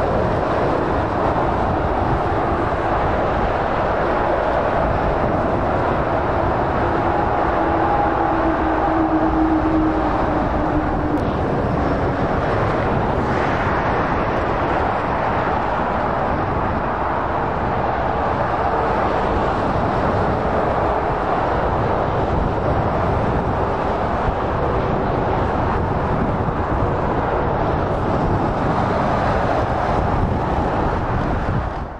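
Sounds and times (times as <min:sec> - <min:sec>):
motorway traffic rush: 0:00.0 - 0:31.9.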